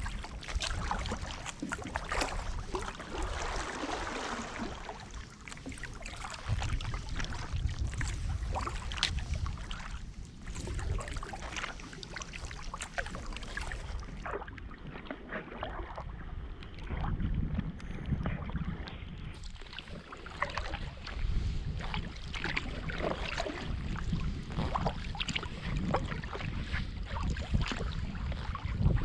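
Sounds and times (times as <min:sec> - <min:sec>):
paddle splashing in water: 0:00.0 - 0:29.0
wind rumble on microphone: 0:00.0 - 0:29.0.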